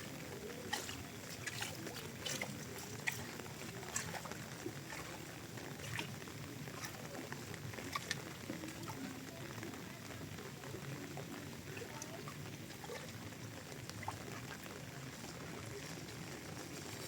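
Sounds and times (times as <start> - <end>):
rain falling: 0.0 - 17.0
raindrops ticking: 0.0 - 17.0.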